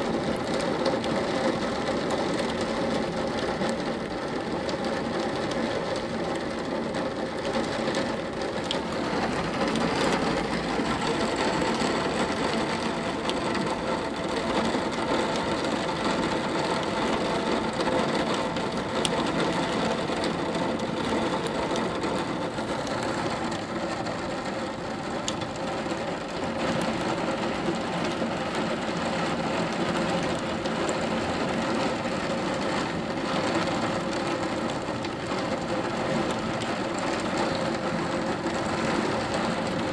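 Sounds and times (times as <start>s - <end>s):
heavy rain on a tiled roof: 0.0s - 39.9s.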